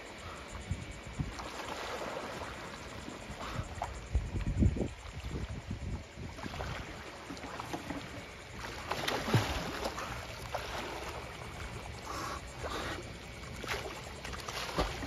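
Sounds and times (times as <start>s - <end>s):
water sloshing and splashing: 1.1s - 15.0s.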